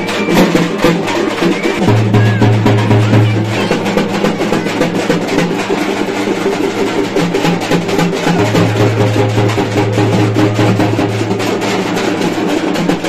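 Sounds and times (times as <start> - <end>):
rapid dense drumming: 0.0 - 13.0.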